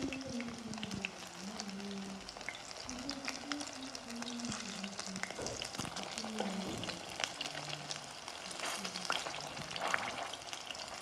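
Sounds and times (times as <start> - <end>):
food sizzling in a pan: 0.0 - 11.0
sharp crackles: 0.0 - 11.0.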